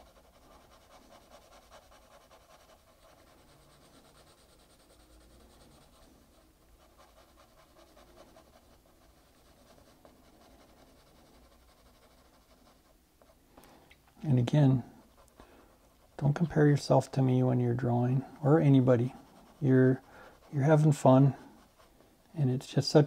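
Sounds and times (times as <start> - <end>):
pencil scratching on paper: 0.0 - 13.4, 14.4 - 16.9, 18.2 - 22.0.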